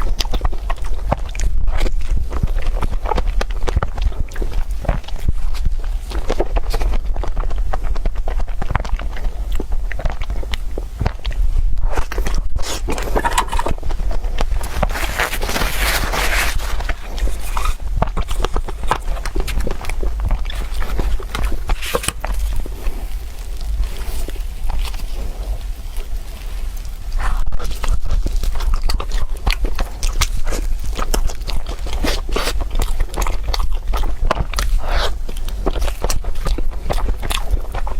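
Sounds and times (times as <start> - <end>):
biting and chewing: 0.0 - 37.9
steady low hum: 0.0 - 37.9.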